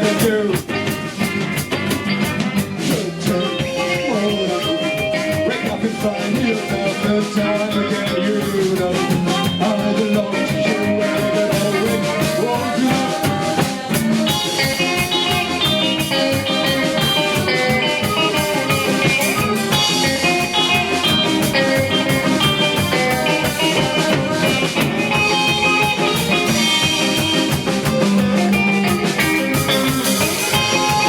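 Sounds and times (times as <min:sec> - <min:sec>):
drum kit: 0:00.0 - 0:31.0
electric guitar lines: 0:00.0 - 0:31.0.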